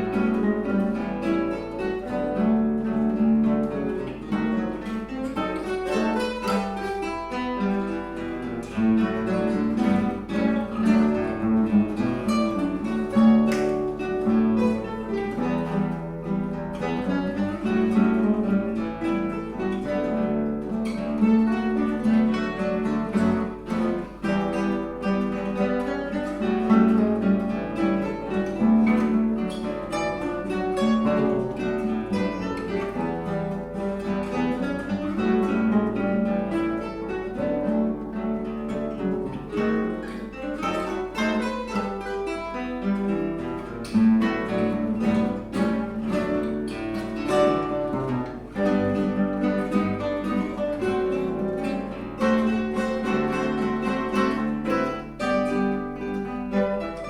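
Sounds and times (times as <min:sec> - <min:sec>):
acoustic guitar ensemble playing: 0:00.0 - 0:57.0.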